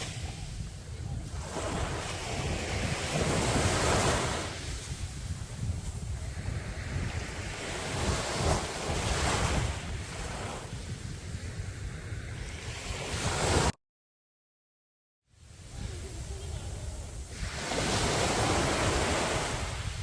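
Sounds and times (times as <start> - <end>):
sea waves washing onto beach: 0.0 - 13.8, 15.4 - 20.0
wind buffeting the microphone: 0.0 - 13.8, 15.5 - 20.0.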